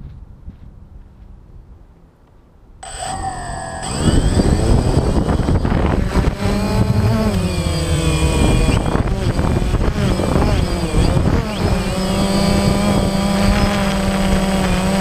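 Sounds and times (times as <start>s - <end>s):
drone motors and propellers: 2.8s - 15.0s.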